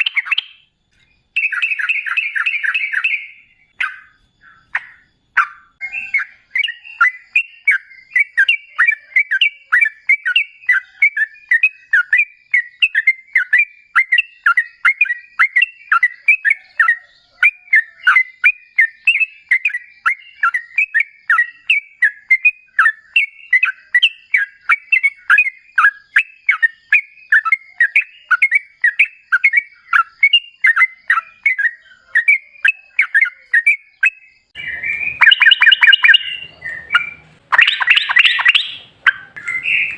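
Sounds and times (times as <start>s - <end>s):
bird singing bubbly whistled notes: 0.0s - 39.9s.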